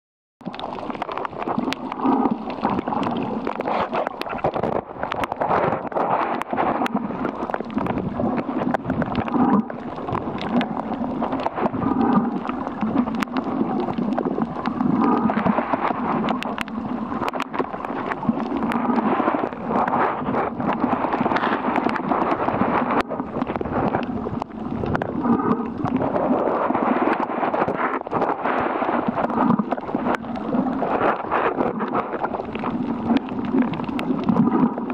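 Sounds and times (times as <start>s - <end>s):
gurgling bubbles: 0.4s - 34.9s
muffled rush of water: 0.4s - 34.9s.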